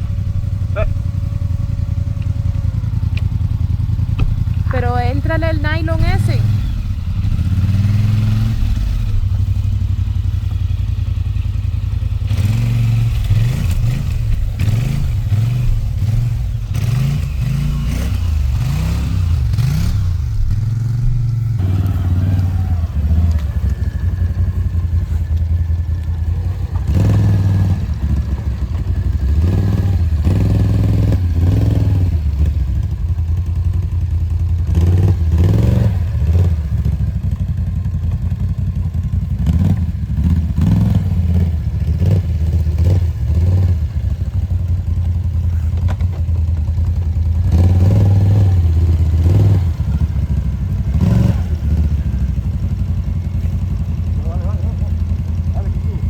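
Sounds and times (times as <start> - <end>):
atv engine revving under load: 0.0 - 56.0.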